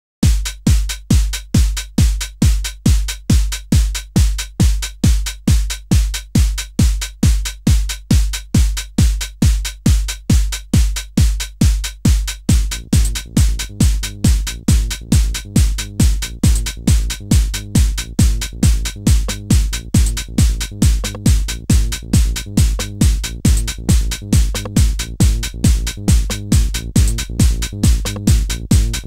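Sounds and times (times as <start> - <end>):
bass line: 0.2 - 29.0
electronic music kick drum beat: 0.2 - 29.0.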